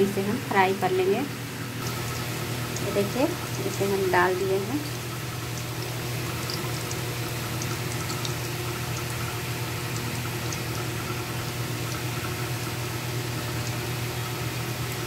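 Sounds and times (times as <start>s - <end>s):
steady low hum: 0.0s - 15.0s
deep-frying sizzle with pops: 1.0s - 15.0s.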